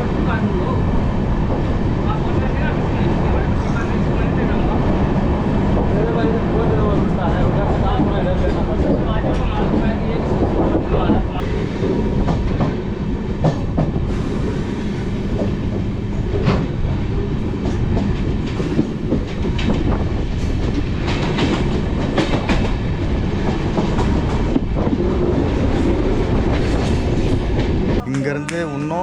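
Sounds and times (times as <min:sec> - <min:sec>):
train rumbling: 0:00.0 - 0:29.0.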